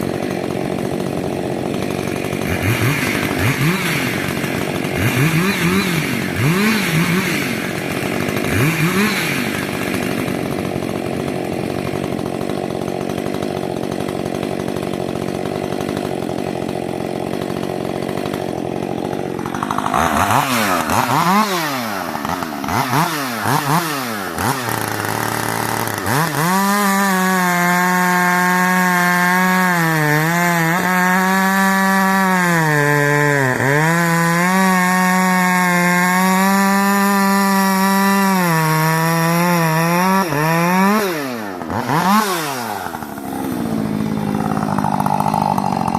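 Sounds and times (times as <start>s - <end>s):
chainsaw engine revving: 0.0s - 45.9s.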